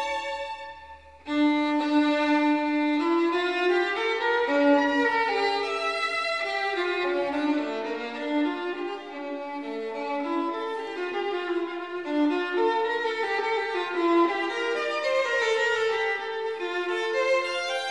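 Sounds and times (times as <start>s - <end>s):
violin playing held notes: 0.0s - 17.9s.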